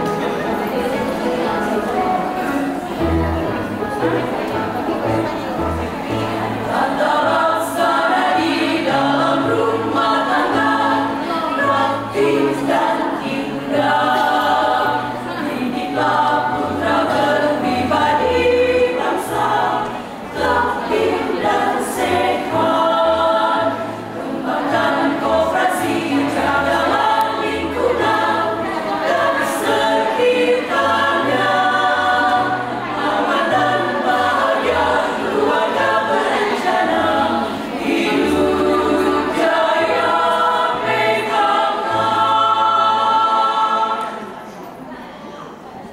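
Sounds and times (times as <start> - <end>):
choir singing a march: 6.1 - 44.4.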